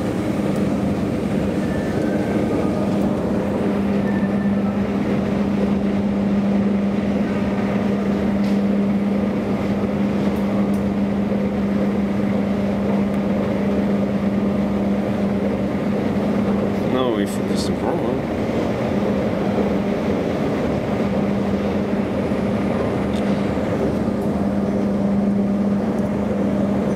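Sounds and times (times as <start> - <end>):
elevator hum with low tone: 0.0 - 26.9
elevator rushing ride noise: 0.0 - 26.9.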